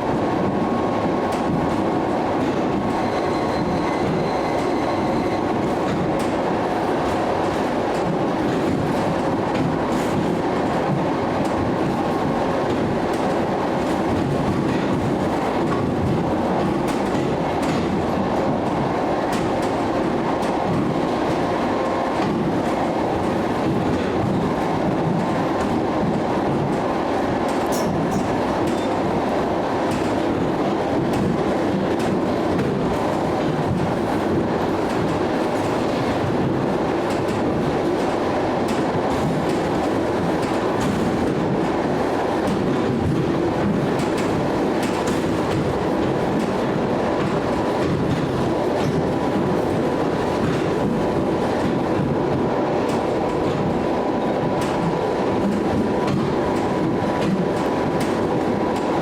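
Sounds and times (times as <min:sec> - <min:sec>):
train running noise: 0:00.0 - 0:59.0.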